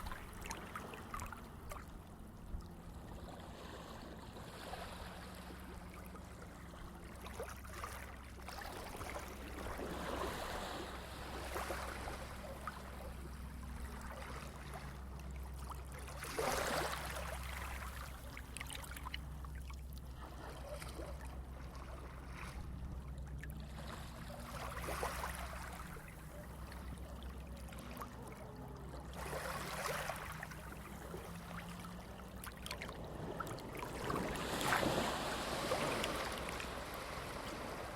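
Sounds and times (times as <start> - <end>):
water flowing and splashing: 7.0 - 37.9.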